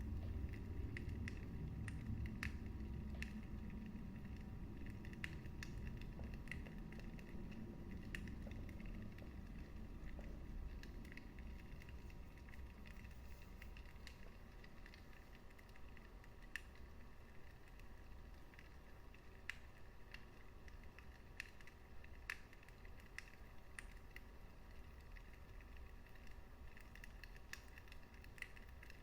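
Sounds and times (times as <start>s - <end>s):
burning wood crackling and popping: 0.0s - 29.0s
fire rumbling in a fireplace: 0.0s - 29.0s.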